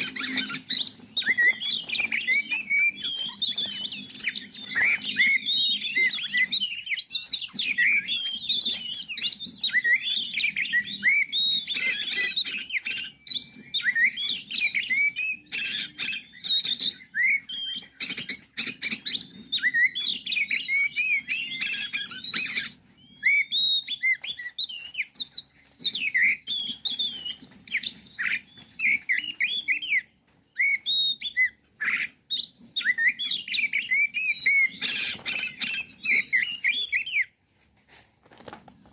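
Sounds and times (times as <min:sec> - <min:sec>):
songbirds chirping and singing: 0:00.0 - 0:37.4.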